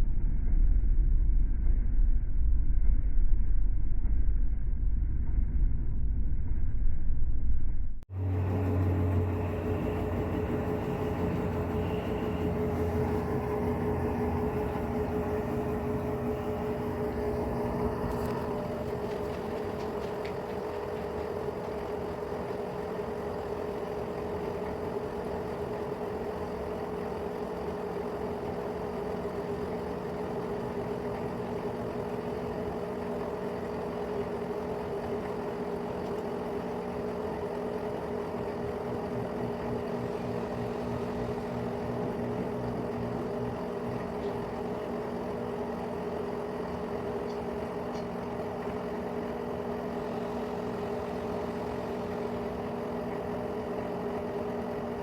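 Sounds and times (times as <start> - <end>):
washing machine motor hum: 8.1 - 55.0.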